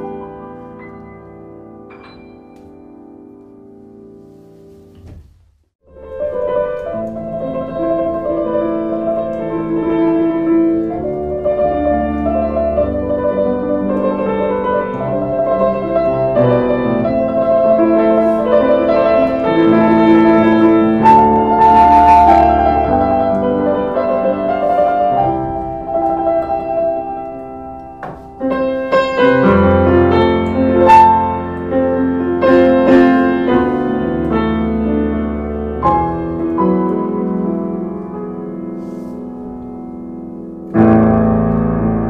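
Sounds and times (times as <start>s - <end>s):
slow piano piece: 0.0s - 42.0s.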